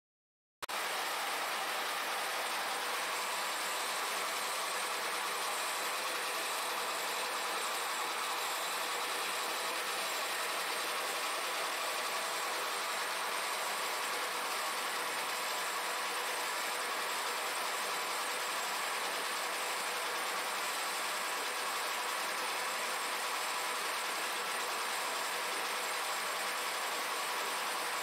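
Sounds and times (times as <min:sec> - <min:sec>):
milling machine cutting metal: 0:00.7 - 0:28.0.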